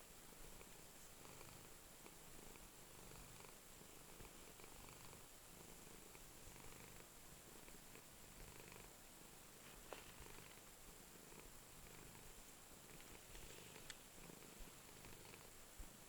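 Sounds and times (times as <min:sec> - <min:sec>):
cat purring: 0:00.2 - 0:16.0.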